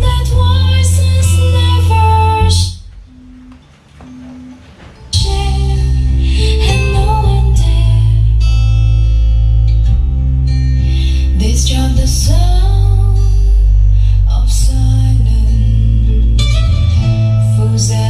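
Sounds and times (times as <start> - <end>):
song with singing and guitar: 0.0 - 3.6, 4.2 - 18.0.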